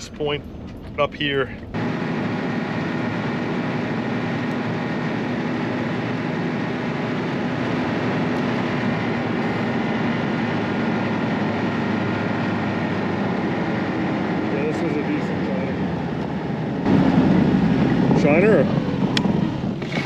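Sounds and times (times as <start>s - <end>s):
track and wind noise: 0.0s - 20.0s
snowmobile engine droning: 1.2s - 20.0s.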